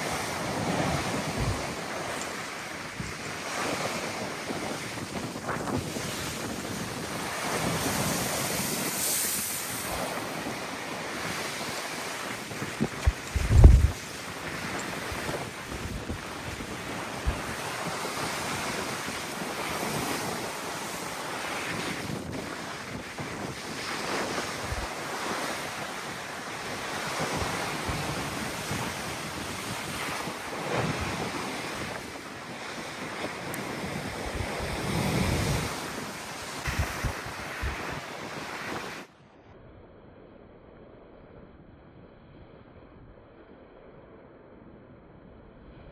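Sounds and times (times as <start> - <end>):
sea waves breaking: 0.0 - 39.1
wind buffeting microphone: 0.0 - 39.1.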